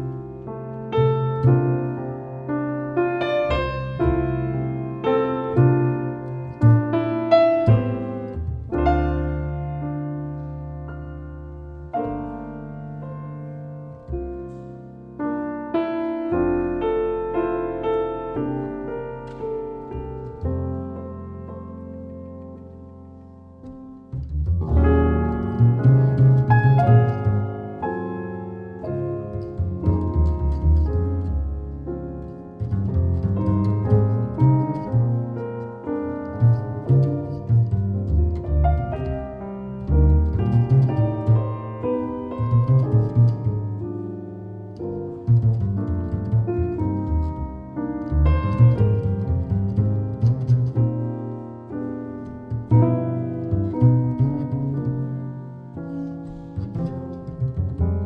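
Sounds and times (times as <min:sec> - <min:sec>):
double bass notes: 0:00.0 - 0:58.0
gentle piano melody: 0:00.0 - 0:58.0.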